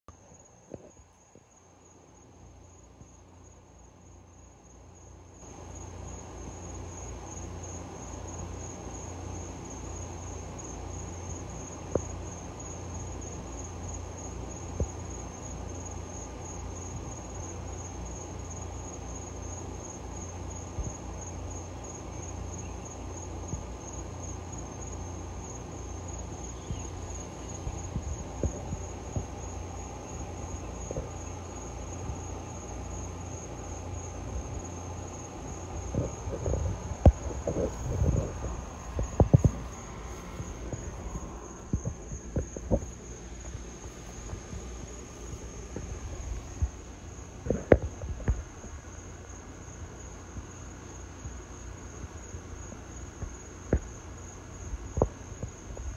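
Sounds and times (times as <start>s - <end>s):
crickets chirping: 0.1s - 55.9s
low steady hum: 0.1s - 55.9s.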